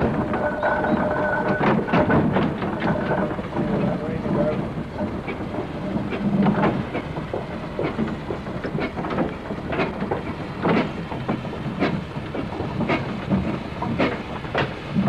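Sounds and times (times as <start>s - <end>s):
mechanical knocks: 0.0s - 15.0s.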